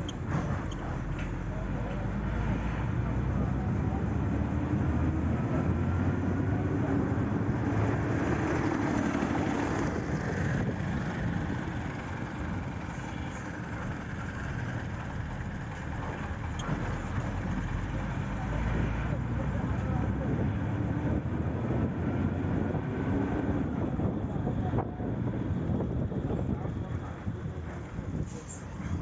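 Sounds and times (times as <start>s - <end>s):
road noise rumble: 0.0s - 29.0s
vehicle engine hum: 0.0s - 29.0s.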